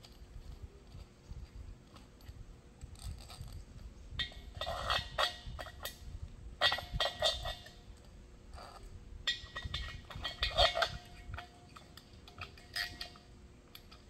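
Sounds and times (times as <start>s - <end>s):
metal clicking and scraping on ceramic: 0.0s - 14.0s.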